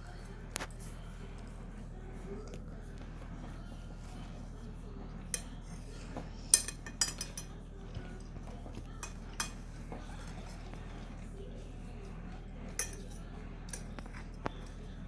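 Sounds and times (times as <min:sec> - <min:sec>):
utensils clinking against a dish: 0:00.0 - 0:01.8, 0:03.3 - 0:15.0.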